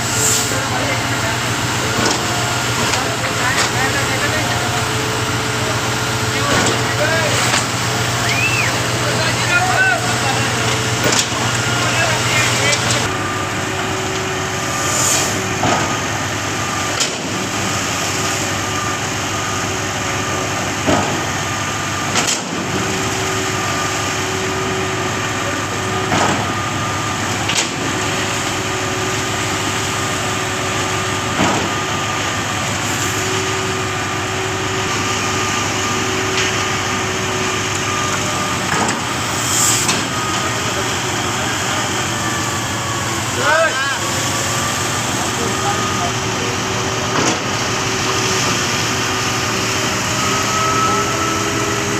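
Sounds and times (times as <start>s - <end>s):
concrete pump running: 0.0s - 51.9s.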